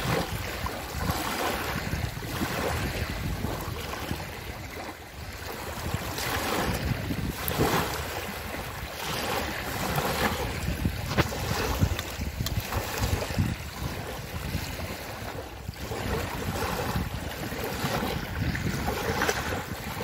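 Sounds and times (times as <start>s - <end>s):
lake waves lapping on shore: 0.0s - 20.0s
wind rumbling on microphone: 0.0s - 20.0s.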